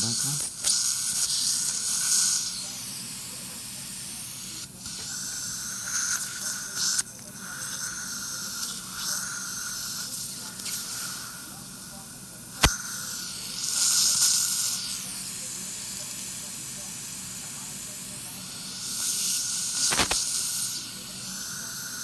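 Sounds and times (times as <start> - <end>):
suction tip hissing: 0.0 - 3.3, 4.2 - 22.0.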